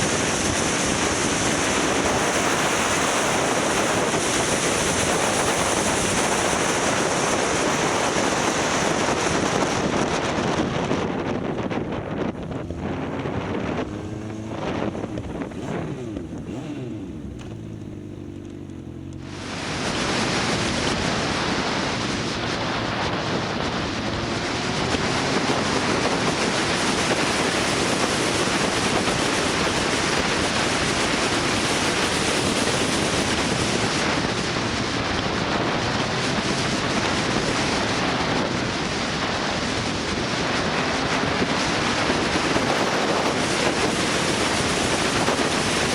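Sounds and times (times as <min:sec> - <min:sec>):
motorcycle engine running: 0:00.0 - 0:45.9
wind rush on microphone: 0:00.0 - 0:45.9.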